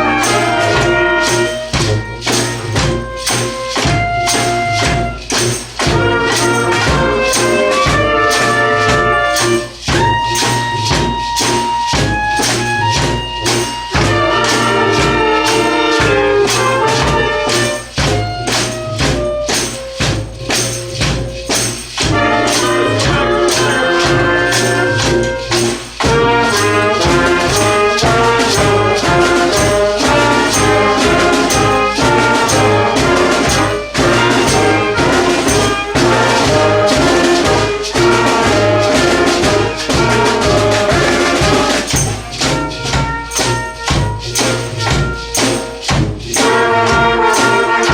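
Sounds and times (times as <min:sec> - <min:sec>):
steady drum beat: 0:00.0 - 0:47.9
street band horns playing: 0:00.0 - 0:47.9.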